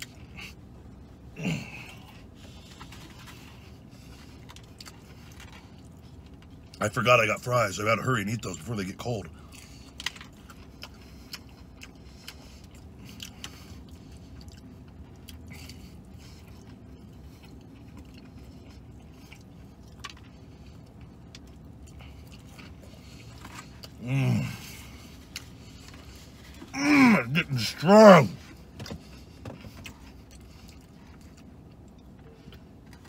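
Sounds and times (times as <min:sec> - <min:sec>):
man chewing crunchy food: 0:00.0 - 0:07.0, 0:08.4 - 0:33.0
low steady hum: 0:00.0 - 0:33.0.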